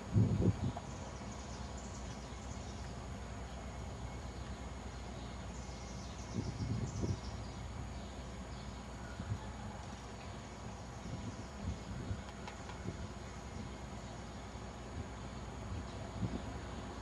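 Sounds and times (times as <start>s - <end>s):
thin steady high whine: 0.0s - 17.0s.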